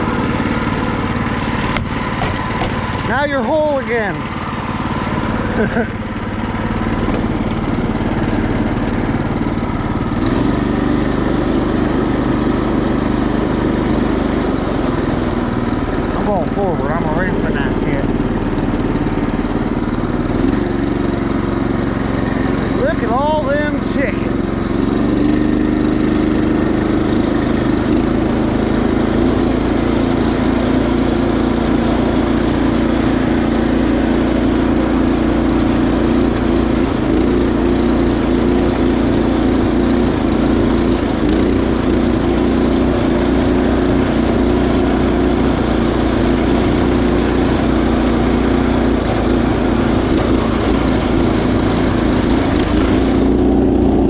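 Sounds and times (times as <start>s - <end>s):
riding mower engine running: 0.0s - 54.0s.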